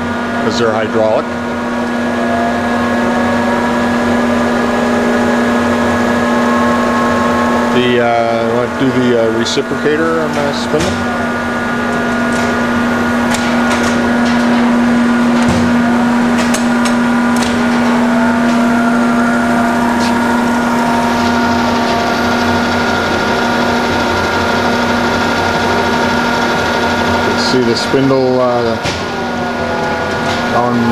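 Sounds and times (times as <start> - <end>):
grinder running: 0.0 - 30.9.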